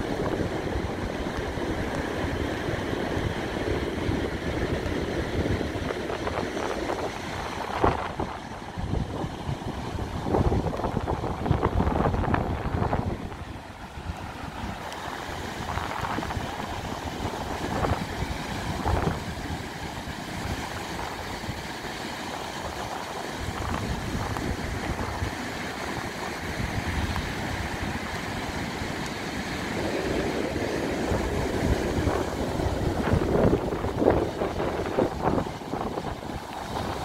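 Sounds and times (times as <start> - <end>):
surf breaking on beach: 0.0 - 37.0
wind buffeting microphone: 0.0 - 37.0.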